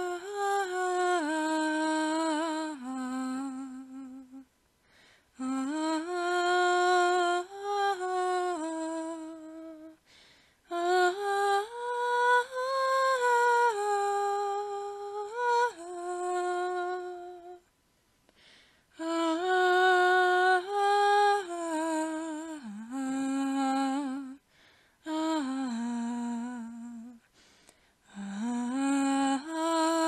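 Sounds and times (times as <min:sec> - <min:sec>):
person humming a slow tune: 0:00.0 - 0:04.5, 0:05.3 - 0:10.0, 0:10.7 - 0:17.7, 0:18.9 - 0:24.4, 0:25.0 - 0:27.3, 0:28.0 - 0:30.0.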